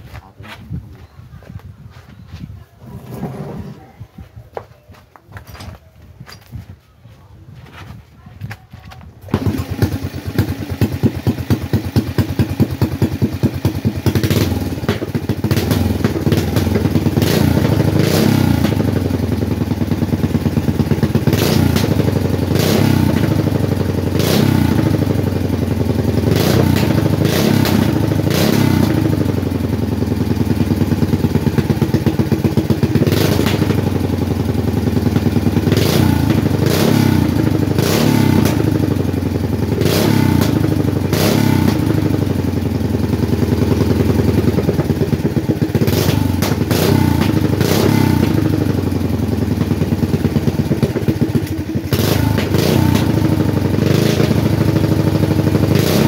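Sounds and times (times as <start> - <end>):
single-cylinder engine revving: 9.2 - 56.0.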